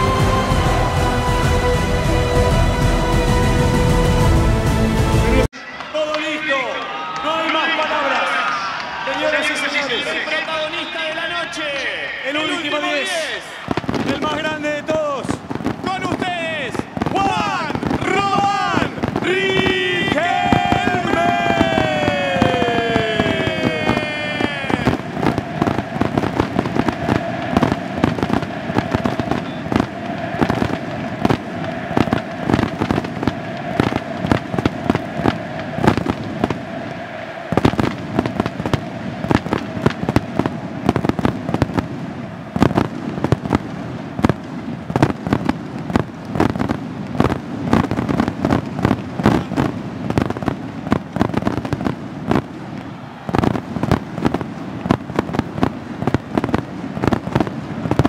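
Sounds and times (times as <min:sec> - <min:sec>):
firework bangs and crackles: 0:07.2 - 0:58.0.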